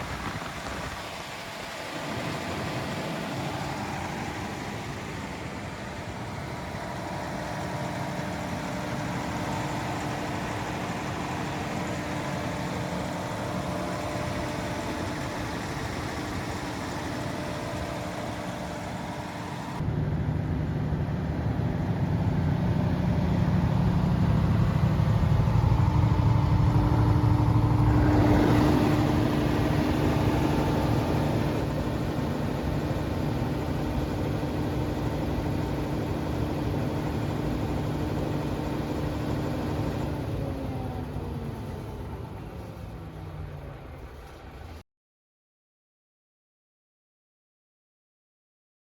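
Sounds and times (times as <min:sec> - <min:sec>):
diesel generator running: 0:00.0 - 0:44.8.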